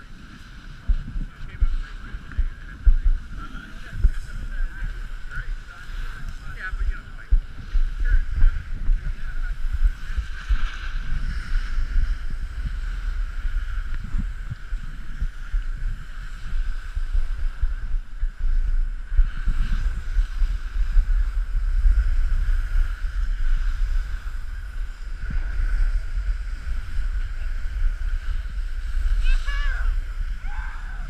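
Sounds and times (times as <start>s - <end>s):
snowboard sliding over snow: 0.0s - 31.0s
wind rushing over microphone: 0.0s - 31.0s.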